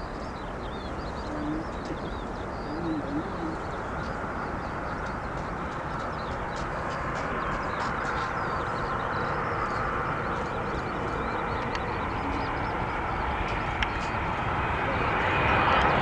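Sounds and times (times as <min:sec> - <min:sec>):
small birds chirping: 0:00.0 - 0:15.7
jet engines roaring: 0:00.0 - 0:16.0.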